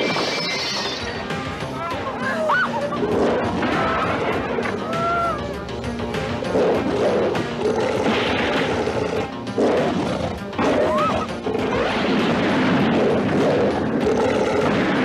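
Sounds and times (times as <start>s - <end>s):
film soundtrack music: 0.0s - 15.0s.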